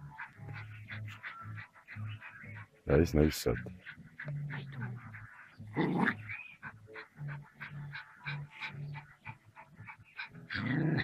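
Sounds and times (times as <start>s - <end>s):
small dog panting: 0.0s - 11.0s.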